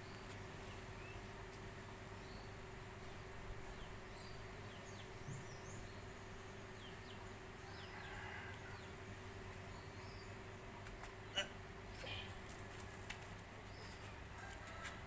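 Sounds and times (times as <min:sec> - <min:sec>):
low hum and hiss: 0:00.0 - 0:14.8
small birds chirping: 0:00.0 - 0:14.8.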